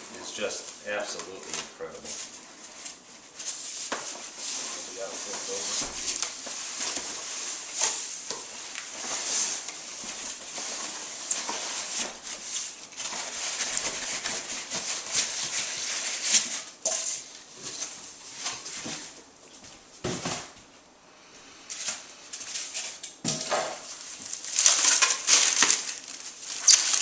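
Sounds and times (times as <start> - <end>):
polystyrene foam crackling: 0.0 - 19.1, 23.8 - 27.0.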